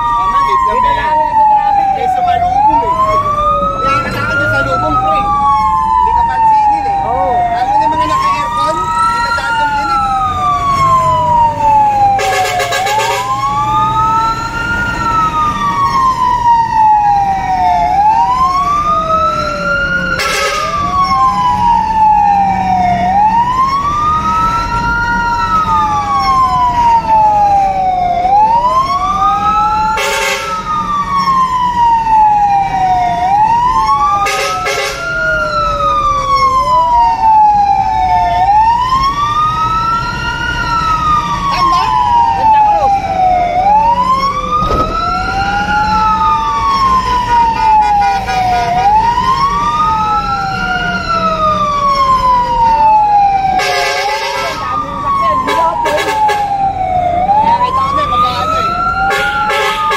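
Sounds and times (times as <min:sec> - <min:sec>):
engine rumbling: 0:00.0 - 0:59.9
fire engine siren wailing: 0:00.0 - 0:59.9.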